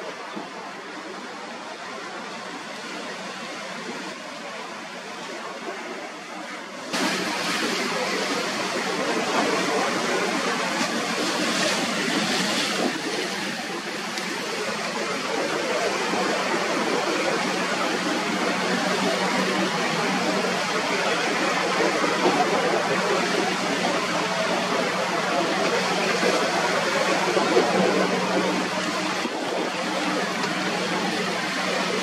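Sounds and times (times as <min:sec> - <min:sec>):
rough sea breaking: 0:00.0 - 0:32.0
wind: 0:00.0 - 0:32.0.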